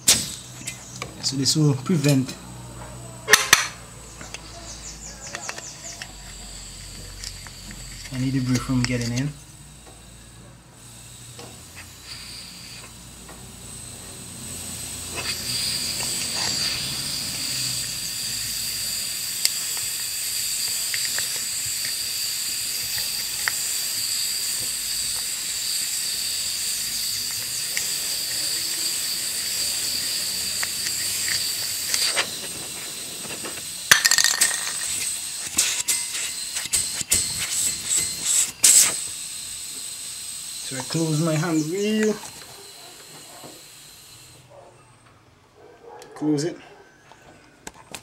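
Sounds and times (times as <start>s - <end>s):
gas hissing from a pipe: 0.0s - 44.5s.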